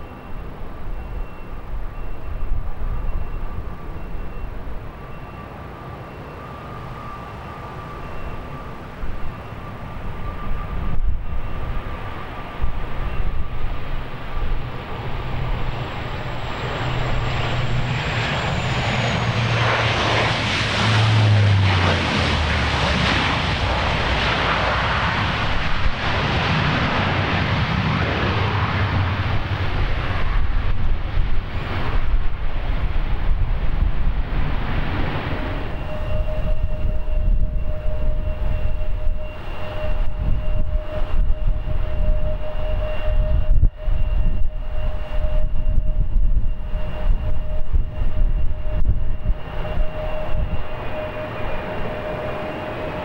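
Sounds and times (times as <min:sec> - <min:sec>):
turboprop plane passing: 0:00.0 - 0:53.0.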